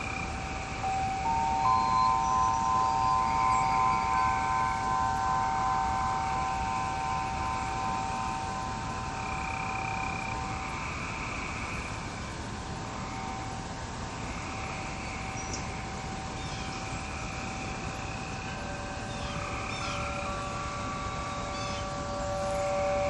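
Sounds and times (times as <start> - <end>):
frogs calling: 0.0 - 23.0
wind chimes ringing: 0.0 - 23.0.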